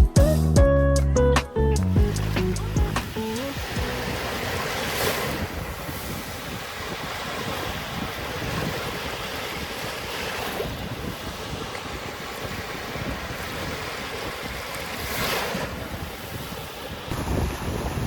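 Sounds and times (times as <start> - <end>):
wind on microphone: 1.6 - 18.0
sea waves washing onto shore: 1.8 - 18.0.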